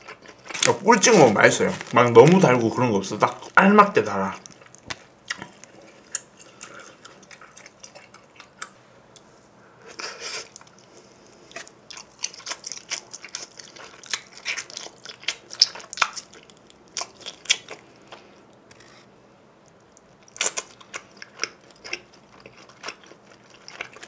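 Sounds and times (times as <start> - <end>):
chewing pizza crust: 0.0 - 2.6, 3.2 - 8.8, 9.9 - 19.0, 19.8 - 24.0.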